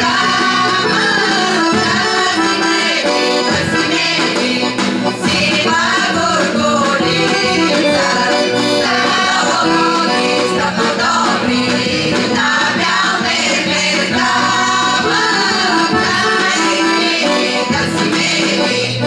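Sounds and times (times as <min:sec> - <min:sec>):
accordion: 0:00.0 - 0:19.0
women's choir singing: 0:00.0 - 0:19.0.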